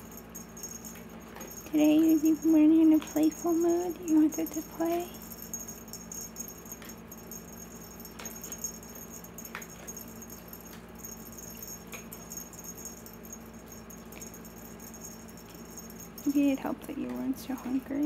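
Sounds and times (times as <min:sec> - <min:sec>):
cat toy jingling and rustling: 0:00.0 - 0:18.0
steady background hum: 0:00.0 - 0:18.0.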